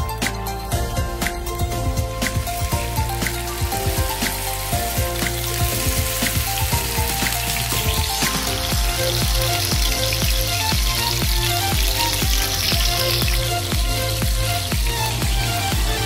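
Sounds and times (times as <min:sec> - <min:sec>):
background music: 0:00.0 - 0:16.0
kebabs sizzling on grill pan: 0:00.1 - 0:16.0.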